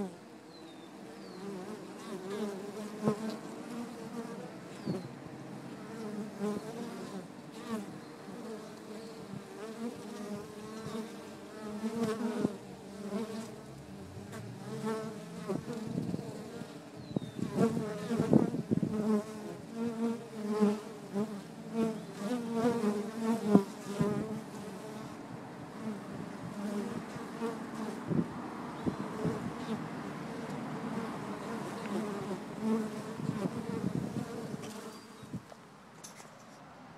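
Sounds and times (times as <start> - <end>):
honeybees buzzing: 0.0 - 35.4.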